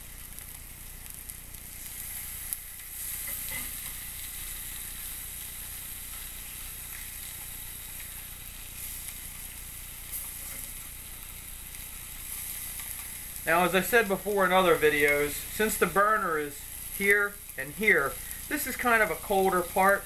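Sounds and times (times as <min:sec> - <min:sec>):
steaks sizzling on grill pan: 0:00.0 - 0:20.0.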